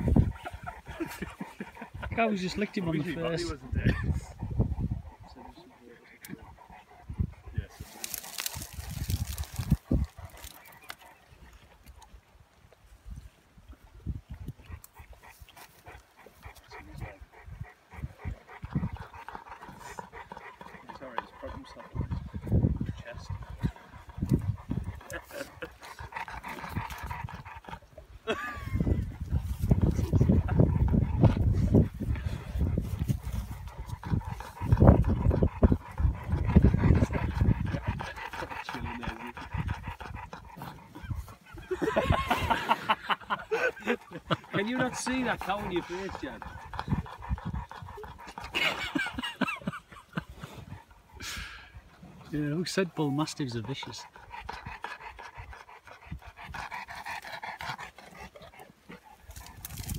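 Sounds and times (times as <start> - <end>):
dog panting: 0.0 - 12.3, 14.2 - 59.9.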